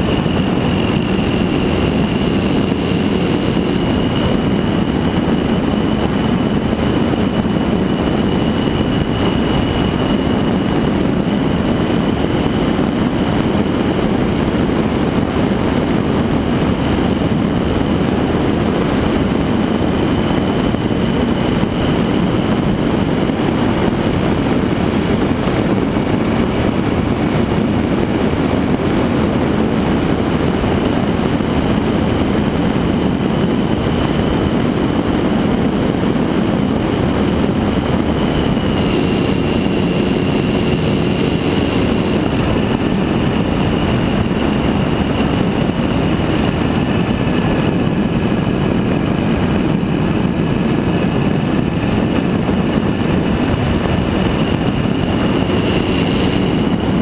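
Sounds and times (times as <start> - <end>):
motorcycle engine: 0.0 - 57.0
wind and road noise: 0.0 - 57.0.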